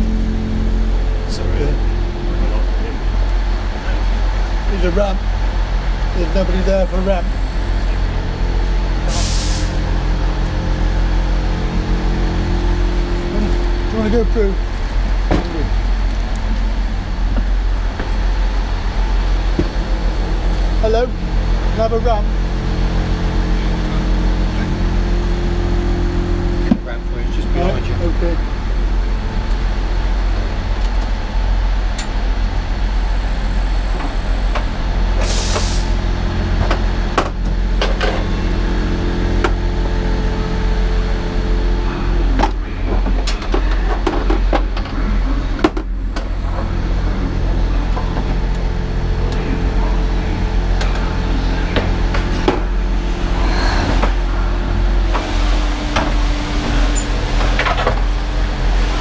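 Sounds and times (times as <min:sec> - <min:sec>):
diesel train engine idling: 0:00.0 - 0:59.0.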